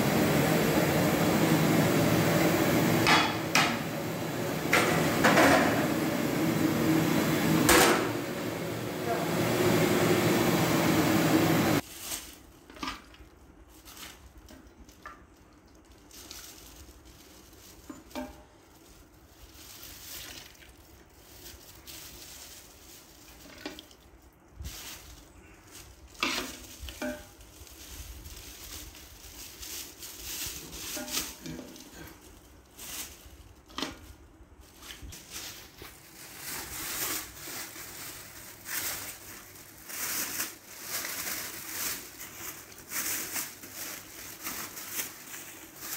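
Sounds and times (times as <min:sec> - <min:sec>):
plastic bags rustling and crinkling: 0:00.1 - 0:45.9.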